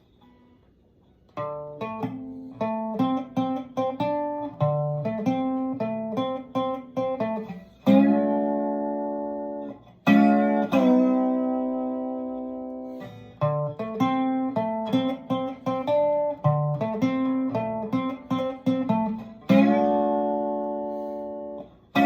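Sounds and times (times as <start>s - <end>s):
guitar playing: 0.0s - 22.0s.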